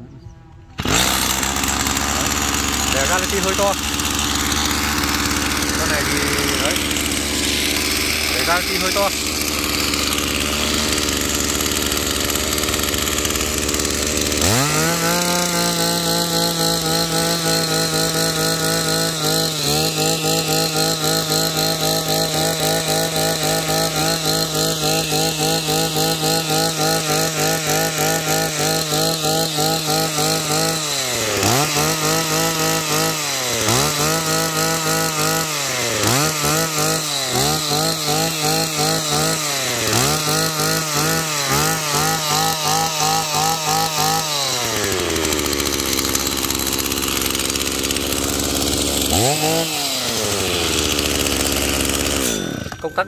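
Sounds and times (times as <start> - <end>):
brush cutter engine revving: 0.0 - 53.0.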